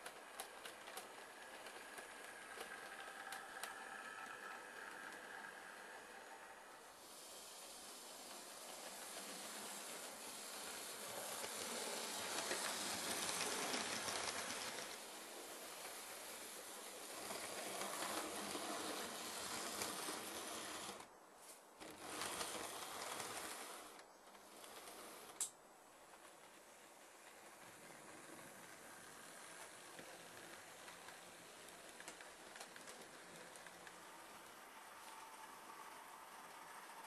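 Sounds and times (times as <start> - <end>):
model train whirring on track: 0.0 - 37.0.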